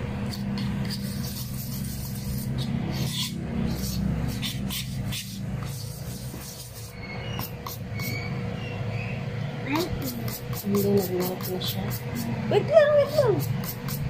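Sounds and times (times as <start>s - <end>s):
utensil stirring batter in bowl: 0.0s - 8.4s, 9.7s - 14.0s.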